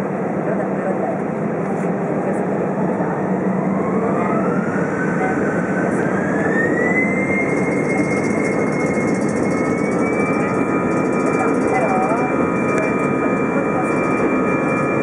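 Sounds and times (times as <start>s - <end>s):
engine fan whine: 0.0s - 15.0s
jet engines spooling up: 1.6s - 15.0s.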